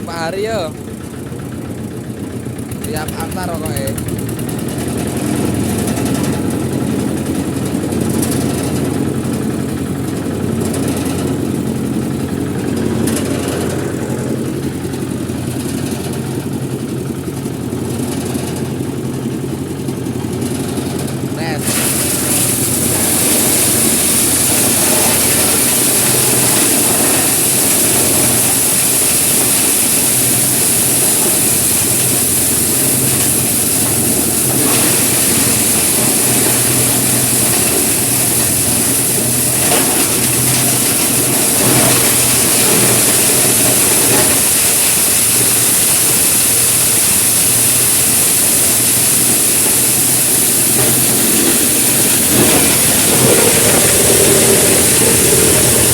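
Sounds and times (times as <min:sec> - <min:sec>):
low engine hum: 0:00.0 - 0:55.9
grinding machine hiss: 0:02.4 - 0:55.9.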